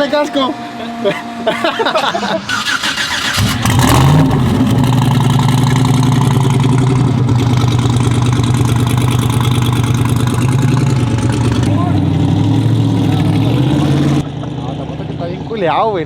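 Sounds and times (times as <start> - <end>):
truck engine revving and idling: 0.0 - 16.0.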